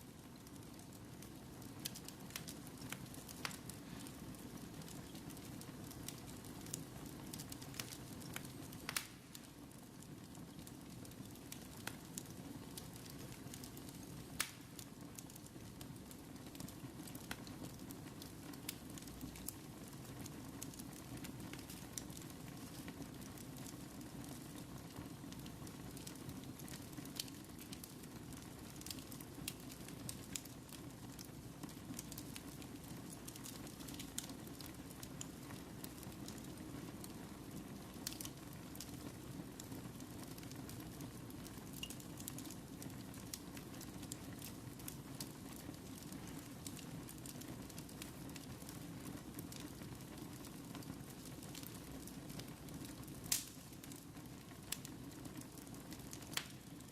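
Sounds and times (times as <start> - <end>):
fire crackling with pops: 0.0 - 56.9.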